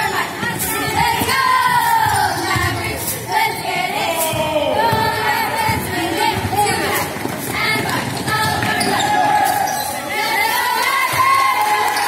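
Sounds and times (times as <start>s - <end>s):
cheerleaders chanting in unison: 0.0s - 12.0s.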